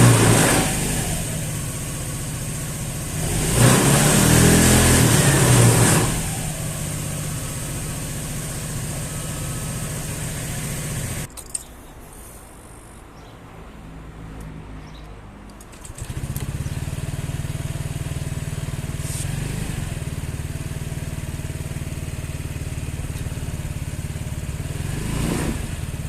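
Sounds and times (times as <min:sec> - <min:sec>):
scooter engine revving and idling: 0:00.0 - 0:11.3, 0:15.7 - 0:26.0.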